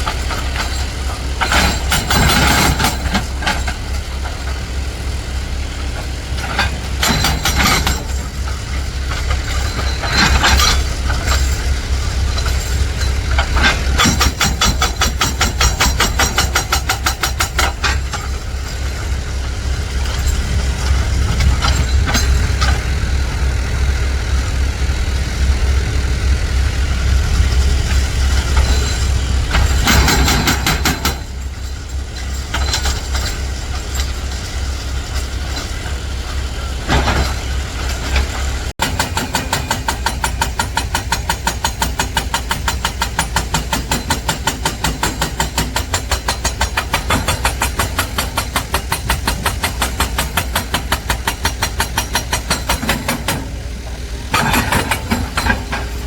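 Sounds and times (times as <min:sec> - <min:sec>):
truck engine rumbling: 0:00.0 - 0:56.0.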